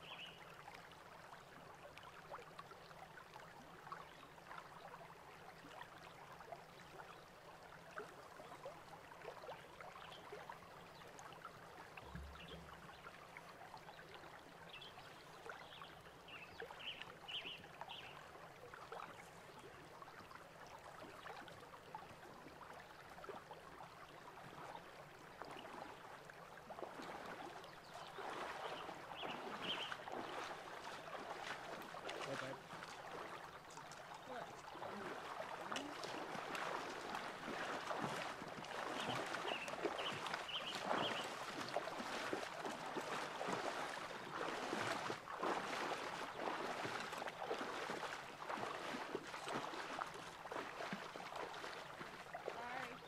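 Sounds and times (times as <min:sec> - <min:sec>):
water babbling over rocks: 0:00.0 - 0:53.0.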